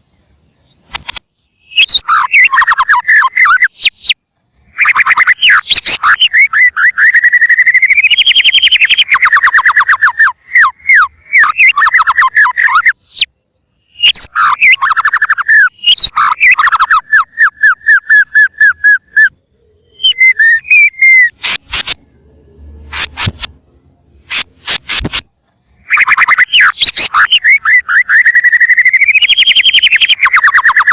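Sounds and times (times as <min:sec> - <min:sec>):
bird singing whistles and trills: 0:00.0 - 0:30.9.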